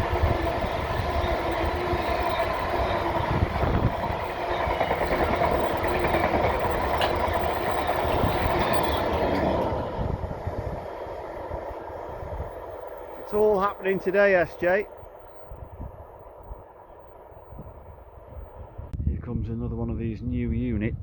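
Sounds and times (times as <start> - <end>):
freight train wagons clattering: 0.0 - 17.1
ringing train wheels: 0.0 - 18.6.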